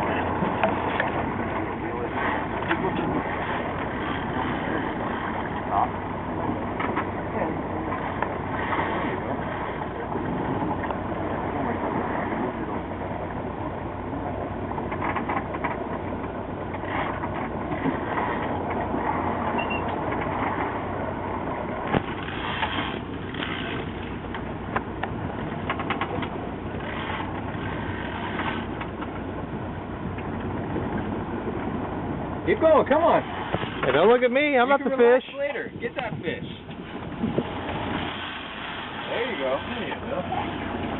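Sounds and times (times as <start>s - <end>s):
boat engine running: 0.0s - 40.9s
water noise: 0.0s - 40.9s
wind: 0.0s - 40.9s.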